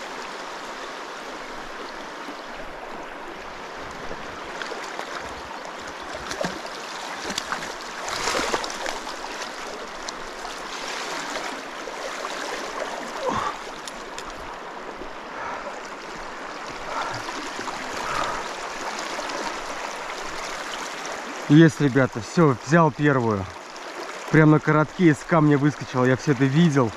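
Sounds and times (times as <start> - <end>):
river current rushing: 0.0 - 26.9.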